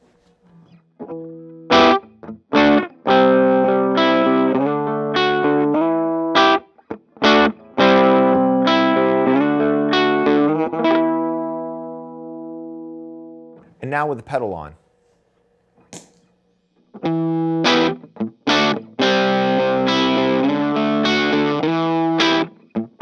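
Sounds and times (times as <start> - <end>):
clean electric guitar chords: 0.8 - 13.6, 16.9 - 23.0.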